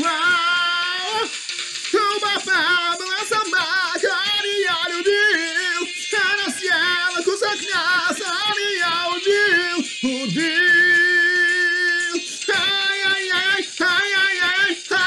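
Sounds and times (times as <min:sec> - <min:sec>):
high-pitched voice singing: 0:00.0 - 0:01.4, 0:02.0 - 0:15.0.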